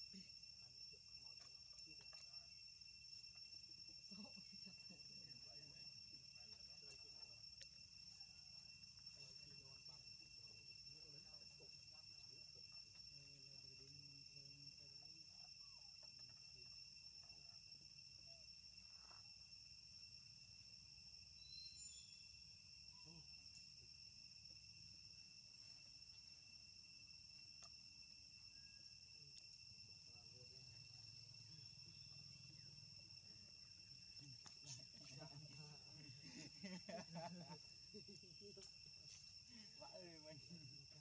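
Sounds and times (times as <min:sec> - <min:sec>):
high-pitched insect chorus: 0:00.0 - 0:41.0.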